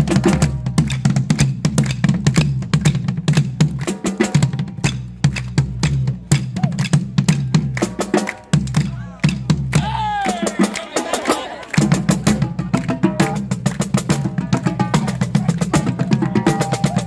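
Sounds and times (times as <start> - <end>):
marching drums: 0.0 - 17.0.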